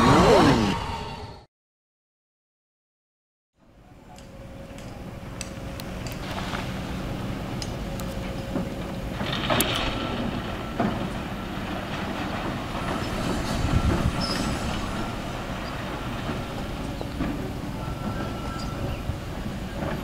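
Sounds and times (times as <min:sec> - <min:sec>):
truck engine low rumble: 0:03.6 - 0:20.0.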